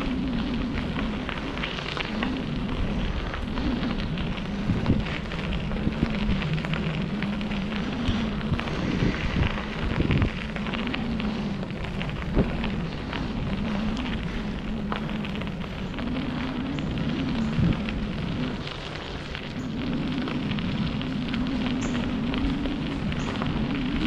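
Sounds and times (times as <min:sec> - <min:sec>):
bicycle tyres crunching on gravel: 0:00.0 - 0:24.0
bike rattling: 0:00.0 - 0:24.0
low riding rumble: 0:00.0 - 0:24.0.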